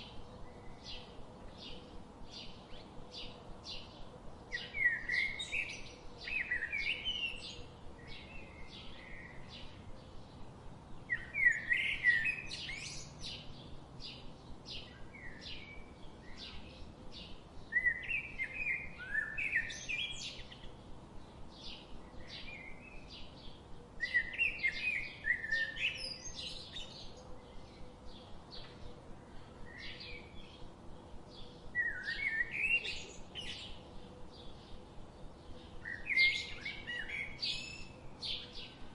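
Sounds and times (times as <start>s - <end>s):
bird chirps and tweets: 0.0s - 38.9s
songbird warbling song: 0.0s - 38.9s.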